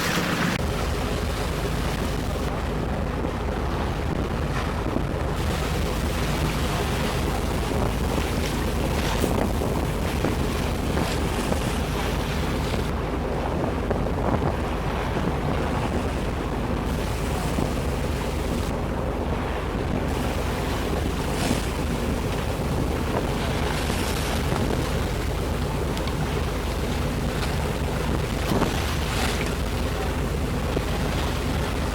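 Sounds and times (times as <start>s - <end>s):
boat engine humming: 0.0s - 31.9s
water splashing along hull: 0.0s - 31.9s
wind buffeting microphone: 0.0s - 31.9s.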